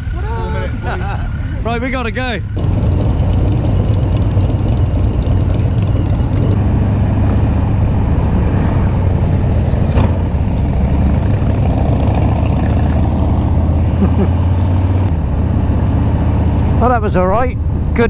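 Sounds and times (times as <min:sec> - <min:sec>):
motorcycle engine cruising: 0:02.5 - 0:18.0
wind noise: 0:02.6 - 0:18.0.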